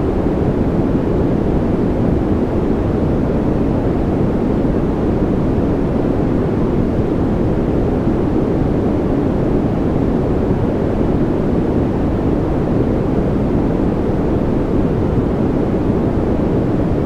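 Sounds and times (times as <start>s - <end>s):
deep white noise rush: 0.0s - 17.0s.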